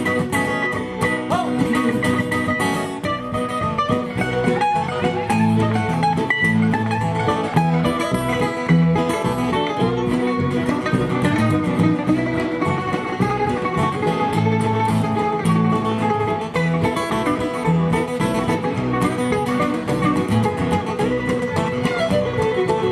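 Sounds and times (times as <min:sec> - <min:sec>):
bass line: 0:00.0 - 0:22.9
live band playing instrumental: 0:00.0 - 0:22.9
plucked guitar: 0:00.0 - 0:22.9.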